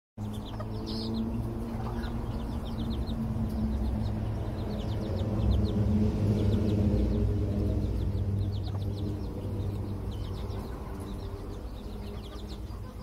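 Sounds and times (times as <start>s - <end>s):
chicks peeping: 0.2s - 13.0s.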